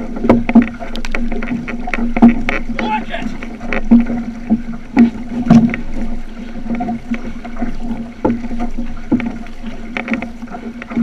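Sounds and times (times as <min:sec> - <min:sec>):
paddle strokes splashing: 0:00.0 - 0:11.0
water rushing along hull: 0:00.0 - 0:11.0.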